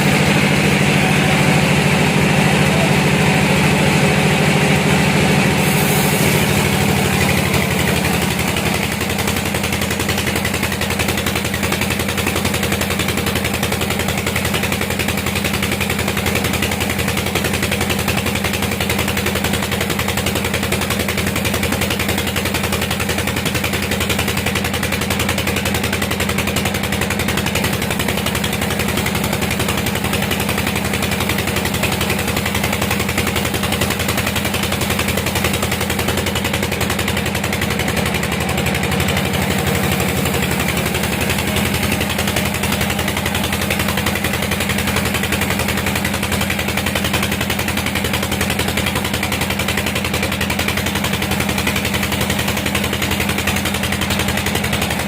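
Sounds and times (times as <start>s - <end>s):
sawmill machinery pulsing hum: 0.0s - 55.0s.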